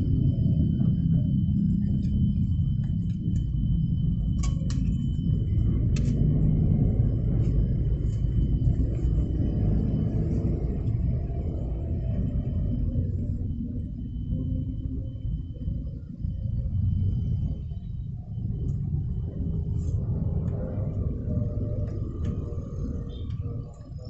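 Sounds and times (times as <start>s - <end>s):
car engine and road noise: 0.0s - 14.8s, 16.5s - 24.0s
faint high whine: 0.0s - 24.0s.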